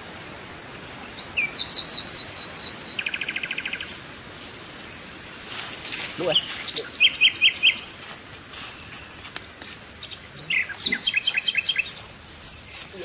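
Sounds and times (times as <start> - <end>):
birds chirping: 0.5 - 13.0.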